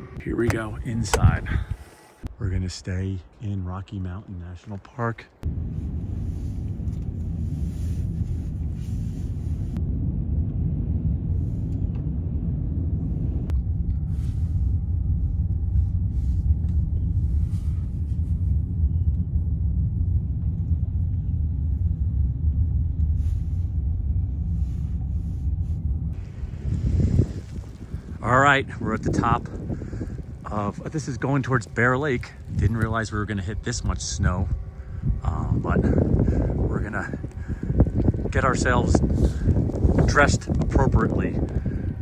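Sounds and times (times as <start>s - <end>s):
vehicle road rumble: 0.0s - 2.6s, 4.8s - 42.0s.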